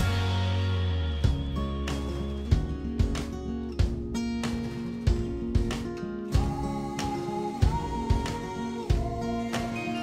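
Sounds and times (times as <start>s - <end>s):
acoustic guitar tune with beat: 0.0s - 10.0s.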